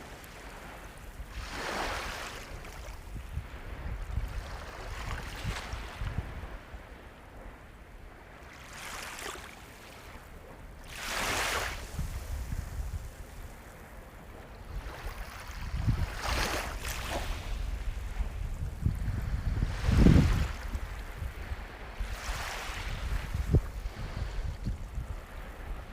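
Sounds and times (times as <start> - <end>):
waves breaking on shore: 0.0 - 25.9.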